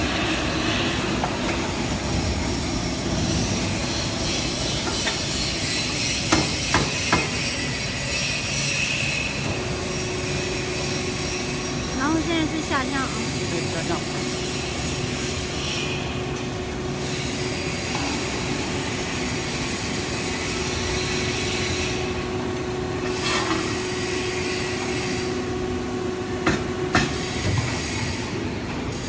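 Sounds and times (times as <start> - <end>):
machinery noise: 0.0 - 29.0.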